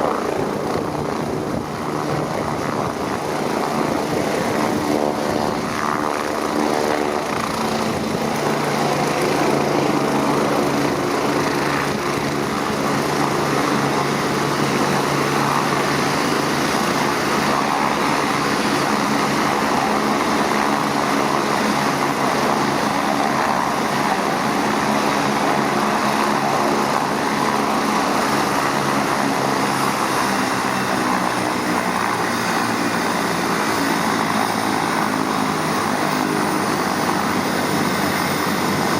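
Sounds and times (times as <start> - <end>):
helicopter engine whine and hum: 0.0 - 38.9.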